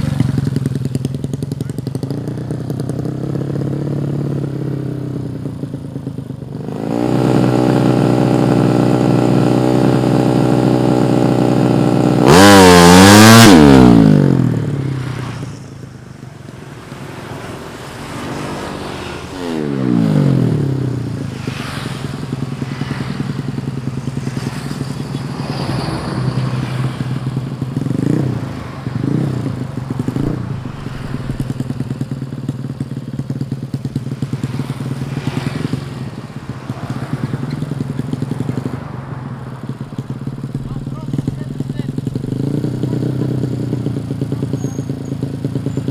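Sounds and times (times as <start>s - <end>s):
motorbike engine revving: 6.5s - 45.9s.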